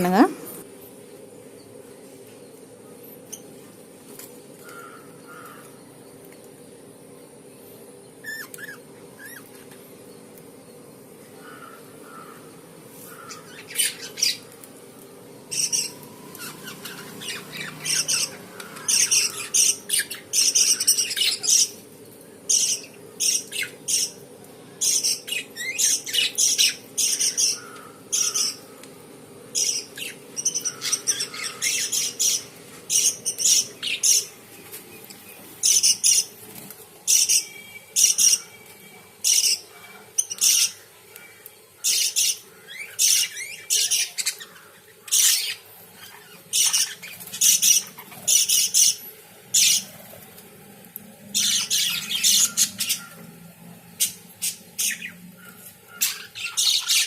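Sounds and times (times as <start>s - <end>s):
lovebirds chirping and squawking: 8.2s - 10.2s, 11.2s - 14.6s, 15.4s - 50.2s, 51.2s - 57.0s.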